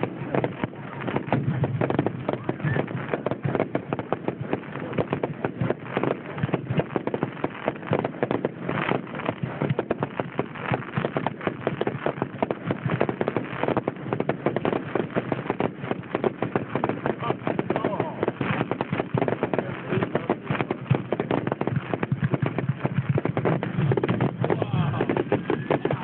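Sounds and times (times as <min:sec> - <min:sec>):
fireworks popping and banging: 0:00.0 - 0:26.0.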